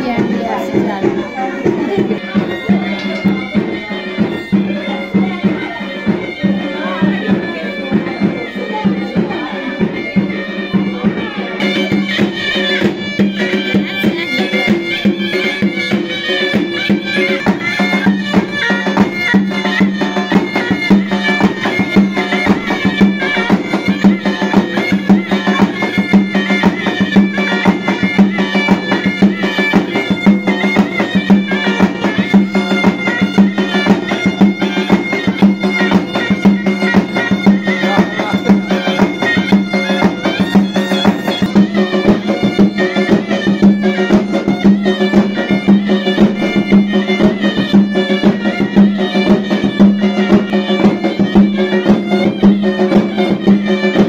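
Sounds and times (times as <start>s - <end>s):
wind instrument melody: 0.0s - 54.0s.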